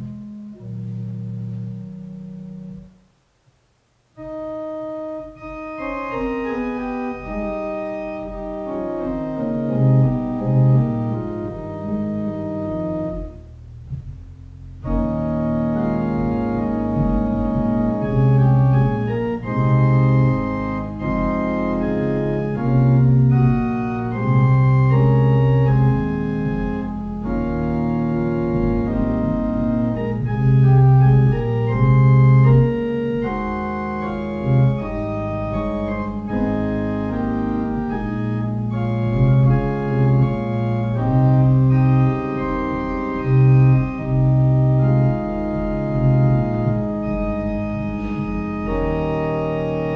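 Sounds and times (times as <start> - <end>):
organ playing slow chords: 0.0 - 3.1, 4.2 - 49.9.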